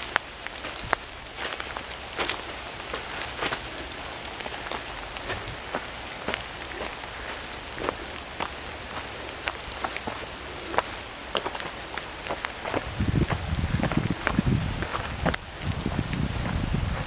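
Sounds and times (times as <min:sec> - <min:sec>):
rain falling on foliage: 0:00.0 - 0:17.0.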